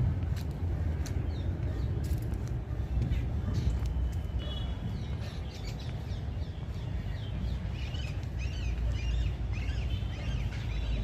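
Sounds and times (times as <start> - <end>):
steady low rumble: 0.0 - 11.0
small birds chirping: 0.5 - 11.0.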